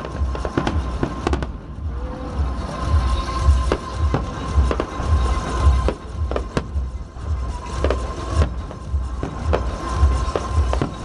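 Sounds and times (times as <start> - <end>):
amplified music with bass beat: 0.0 - 11.0
fireworks bangs and crackles: 0.0 - 11.0.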